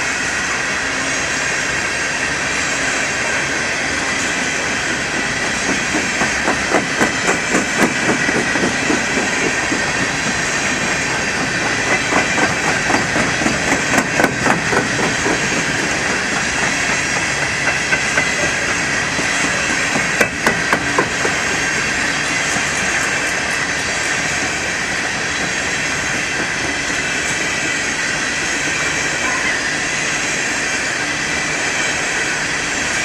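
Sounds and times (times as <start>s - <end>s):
steel wheels rushing on rail: 0.0s - 33.0s.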